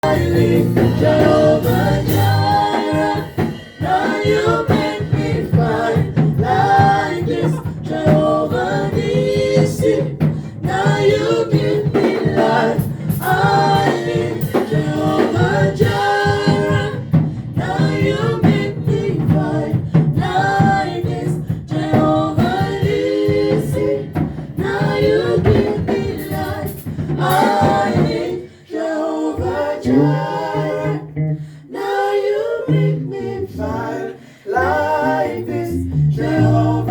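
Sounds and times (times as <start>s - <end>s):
gospel singing: 0.0s - 36.9s.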